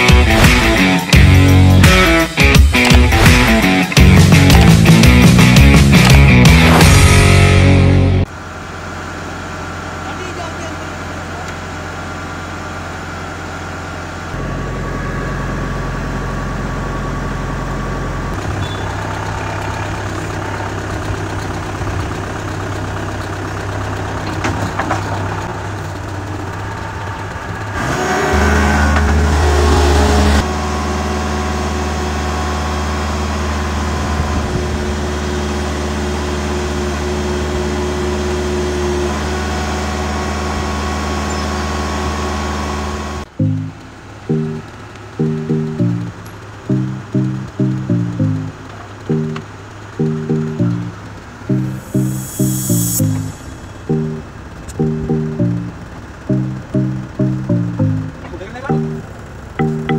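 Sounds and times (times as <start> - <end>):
diesel engine running and revving: 0.0 - 59.9.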